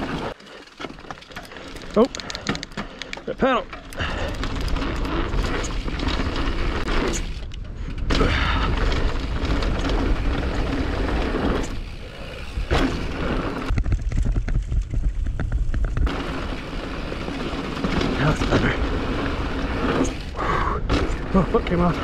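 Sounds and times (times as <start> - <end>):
bike chain and frame clattering: 0.0 - 22.0
tyres on dirt: 0.0 - 22.0.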